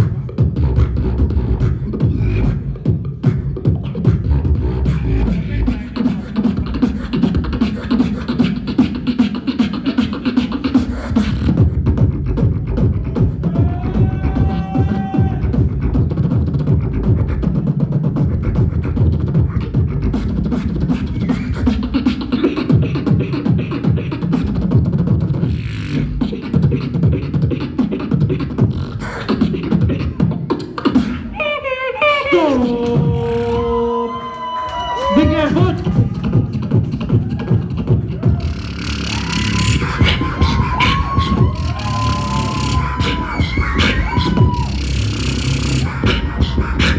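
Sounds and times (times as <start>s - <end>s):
person beatboxing: 0.0s - 46.9s.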